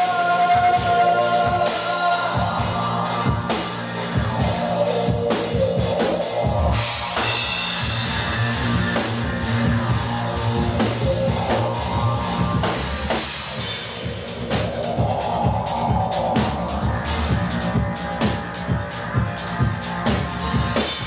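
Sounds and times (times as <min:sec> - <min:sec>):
drum kit steady beat: 0:00.0 - 0:21.0
live rock band playing: 0:00.0 - 0:21.0.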